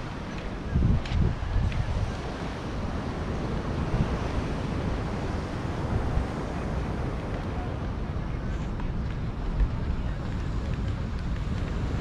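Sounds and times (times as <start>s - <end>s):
sea surf: 0.0s - 12.0s
wind rumbling on microphone: 0.0s - 12.0s.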